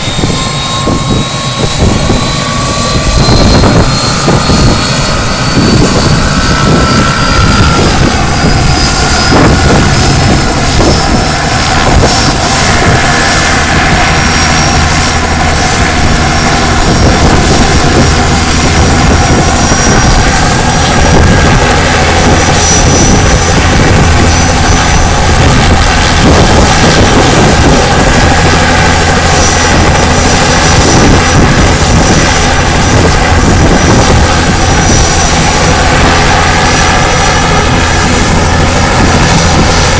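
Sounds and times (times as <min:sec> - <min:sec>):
helicopter rotor blades: 0:00.0 - 0:39.9
helicopter turbine whine: 0:00.0 - 0:39.9.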